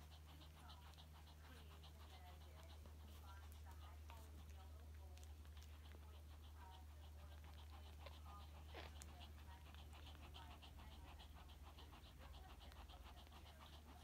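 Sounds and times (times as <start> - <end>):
low steady hum: 0.0 - 14.0
quick rhythmic nursing sound: 0.0 - 14.0.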